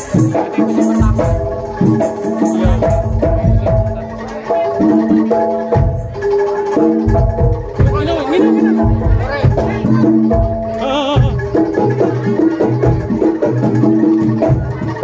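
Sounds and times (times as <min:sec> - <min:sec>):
low drum beats: 0:00.0 - 0:15.0.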